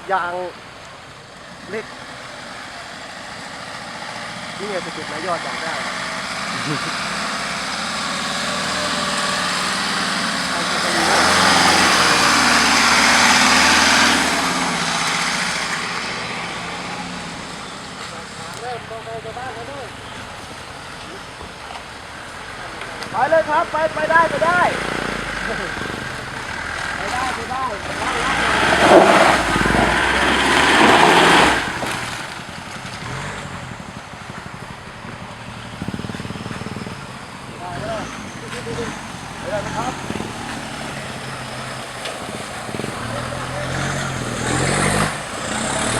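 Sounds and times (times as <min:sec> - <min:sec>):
vehicle engine under load: 0:00.0 - 0:45.9.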